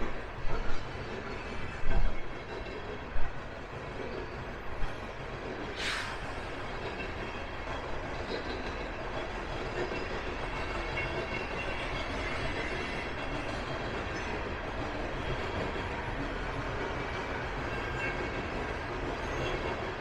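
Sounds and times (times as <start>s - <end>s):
train cars rolling on rails: 0.0s - 20.0s.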